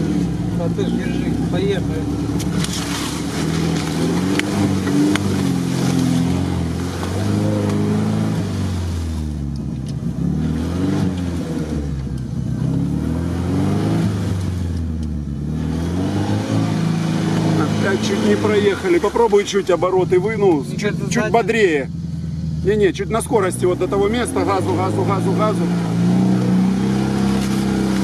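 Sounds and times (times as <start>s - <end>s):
car engine revving under load: 0.0s - 28.0s.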